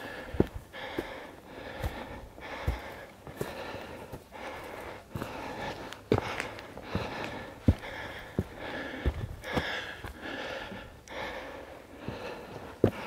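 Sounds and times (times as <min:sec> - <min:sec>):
boot footsteps on trail: 0:00.0 - 0:13.0
person breathing hard: 0:00.0 - 0:13.0.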